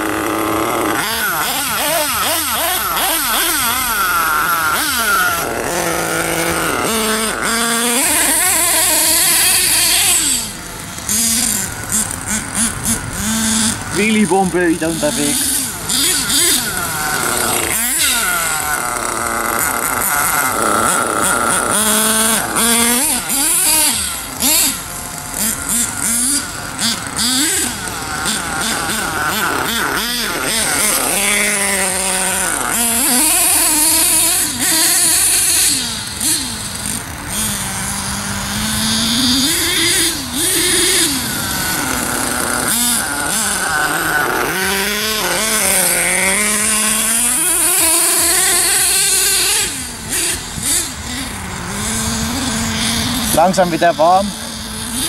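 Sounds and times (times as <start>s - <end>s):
toy truck engine revving: 0.0s - 55.0s.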